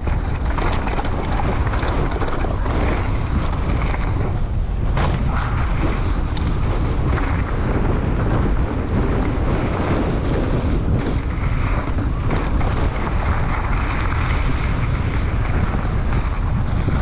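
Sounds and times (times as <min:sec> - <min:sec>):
bike clicks: 0:00.0 - 0:17.0
tyres rumbling on gravel: 0:00.0 - 0:17.0
wind rush on microphone: 0:00.0 - 0:17.0.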